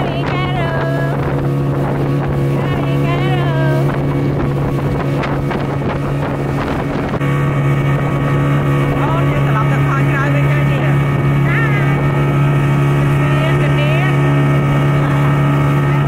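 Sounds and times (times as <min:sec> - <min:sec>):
speedboat engine droning: 0:00.0 - 0:16.0
water rushing and splashing: 0:00.0 - 0:16.0
wind buffeting microphone: 0:00.0 - 0:16.0.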